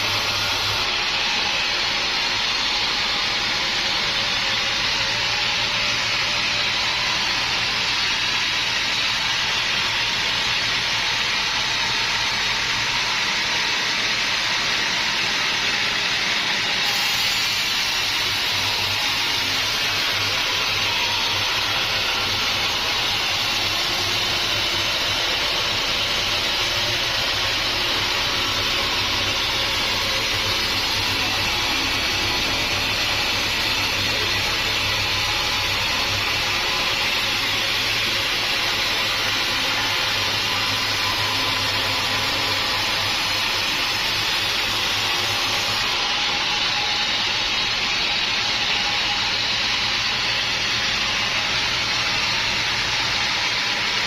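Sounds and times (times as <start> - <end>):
machinery hissing rush: 0.0 - 54.0.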